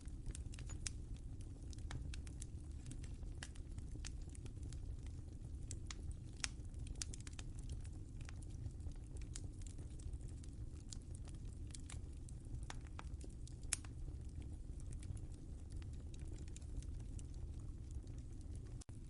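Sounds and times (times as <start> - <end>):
wood fire popping and snapping: 0.0 - 19.0.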